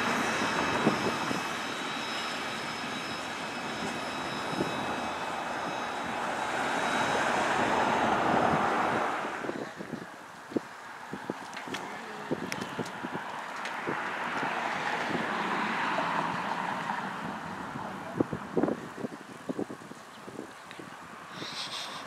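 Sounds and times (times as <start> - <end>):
train wheels rolling on rails: 0.0 - 18.4.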